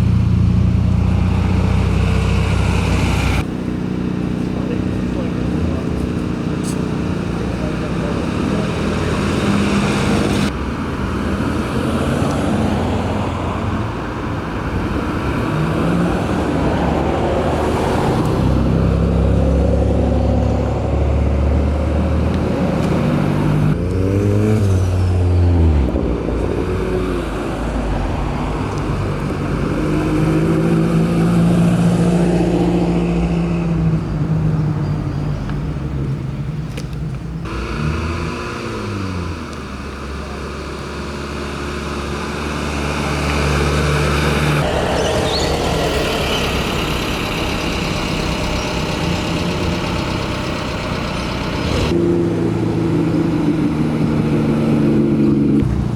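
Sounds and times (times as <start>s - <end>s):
cars driving slowly past: 0.0s - 55.9s
engine revving: 0.0s - 55.9s.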